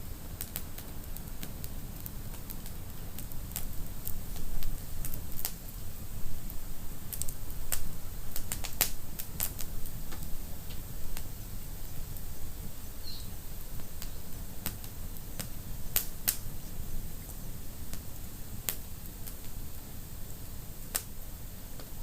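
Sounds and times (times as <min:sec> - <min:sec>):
fire crackles and pops: 0:00.0 - 0:22.0
fire low rumble: 0:00.0 - 0:22.0.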